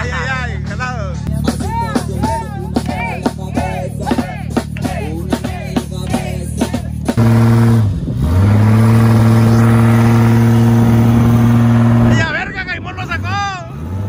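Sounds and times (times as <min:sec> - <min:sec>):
car engine revving: 0:00.6 - 0:14.0.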